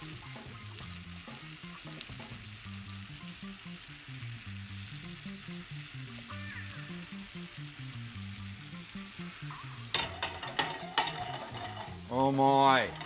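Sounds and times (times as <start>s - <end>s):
background music bass line: 0.0s - 13.0s
figs sizzling in a skillet: 0.0s - 13.0s.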